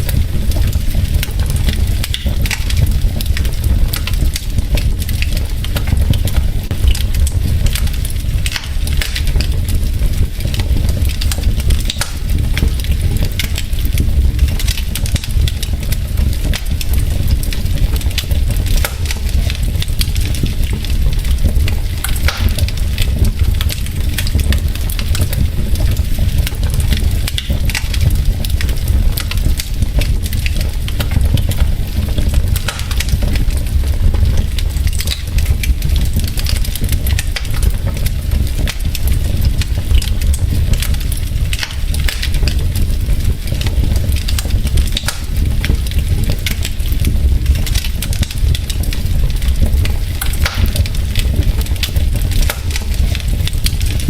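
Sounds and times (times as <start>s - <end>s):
fire crackling and popping: 0.0s - 54.0s
low rumble of fire: 0.0s - 54.0s.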